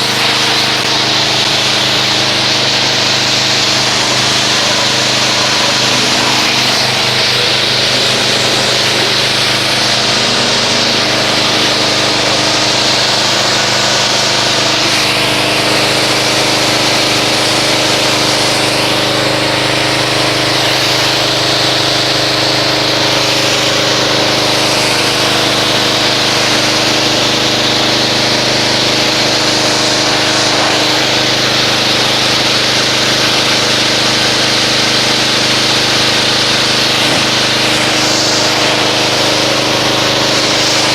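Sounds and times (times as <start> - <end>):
pressure washer motor humming: 0.0 - 40.9
water jet hissing: 0.0 - 40.9.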